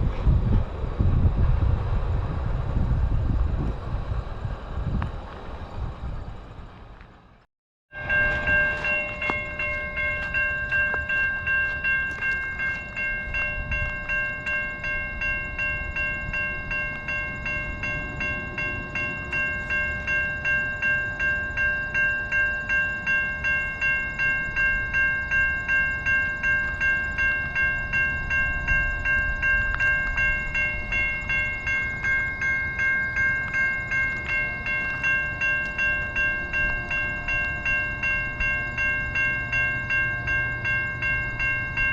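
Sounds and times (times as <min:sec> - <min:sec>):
train rumbling on rails: 0:00.0 - 0:41.9
level-crossing bell ringing: 0:07.9 - 0:41.9.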